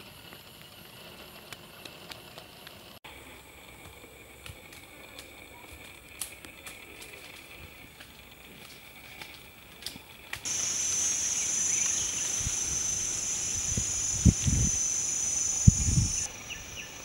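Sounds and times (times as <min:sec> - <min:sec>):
high-pitched insect drone: 0:03.1 - 0:17.0.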